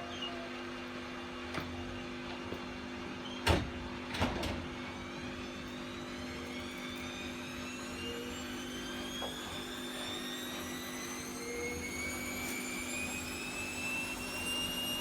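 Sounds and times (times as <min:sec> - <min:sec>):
washing machine motor whine: 0:00.0 - 0:15.0.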